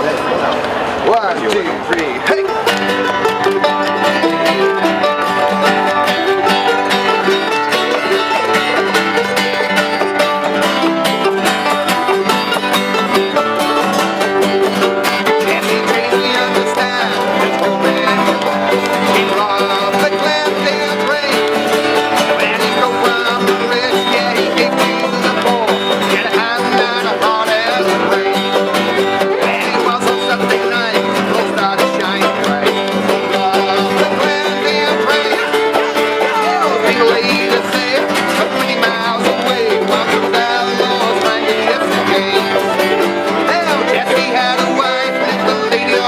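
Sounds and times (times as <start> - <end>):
acoustic band playing: 0.0 - 46.0.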